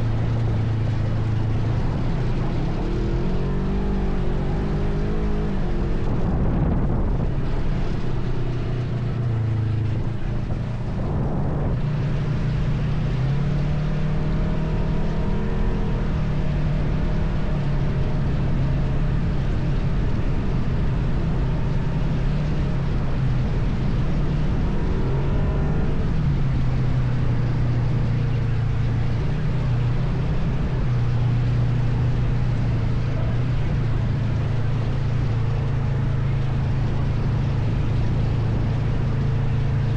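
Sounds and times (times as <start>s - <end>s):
atv engine revving: 0.0s - 39.9s
wind noise: 0.0s - 39.9s.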